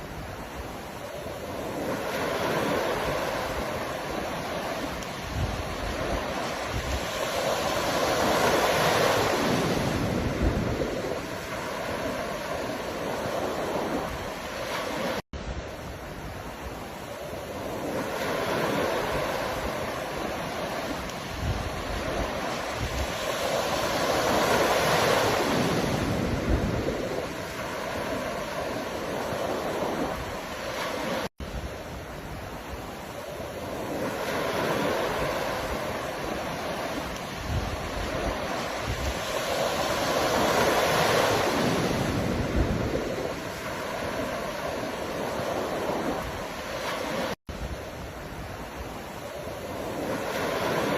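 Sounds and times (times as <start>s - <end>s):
ocean waves breaking on shore: 0.0s - 50.9s
wind on microphone: 0.0s - 50.9s.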